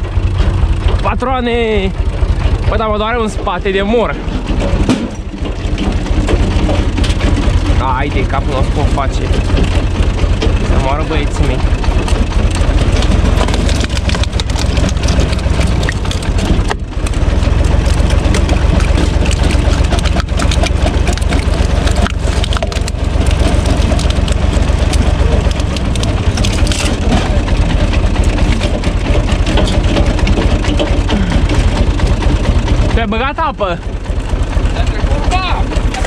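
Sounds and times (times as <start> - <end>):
tractor diesel engine under load: 0.0 - 36.0
wood crushing and cracking: 1.9 - 34.7.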